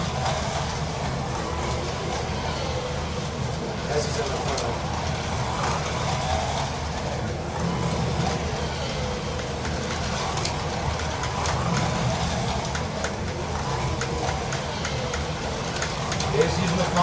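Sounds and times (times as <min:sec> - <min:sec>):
slot car motors humming: 0:00.0 - 0:17.0.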